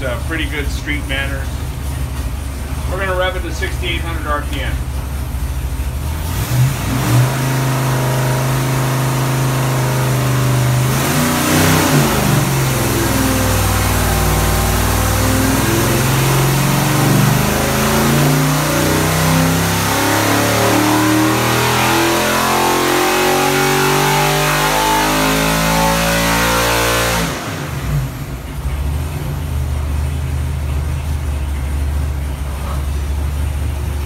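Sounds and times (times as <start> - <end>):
engine revving on a dyno: 2.6 - 34.0.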